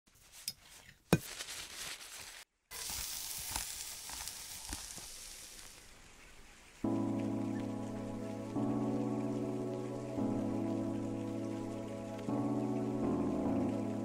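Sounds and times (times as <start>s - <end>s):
crackling sizzling hiss: 0.2s - 14.0s.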